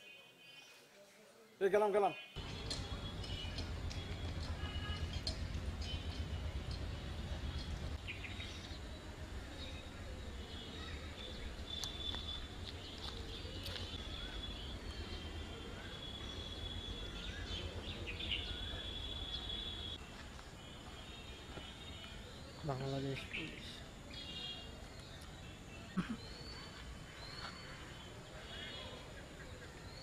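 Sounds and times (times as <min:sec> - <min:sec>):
birds chirping and trilling: 0:01.8 - 0:30.0.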